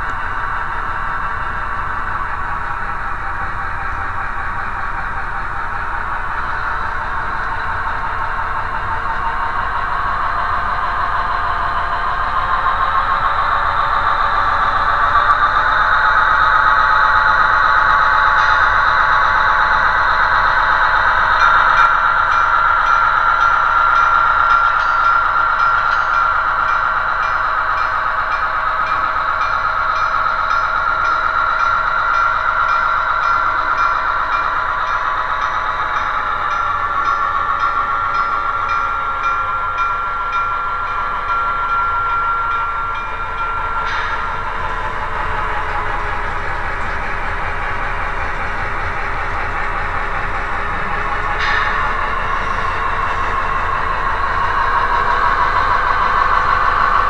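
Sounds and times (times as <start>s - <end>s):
model train motor and wheels humming: 0.0s - 57.0s.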